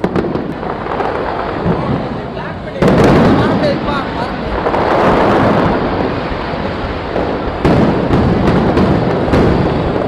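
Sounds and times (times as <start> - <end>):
fireworks booming and crackling: 0.0 - 10.0
sharp firework bang: 0.0 - 10.0.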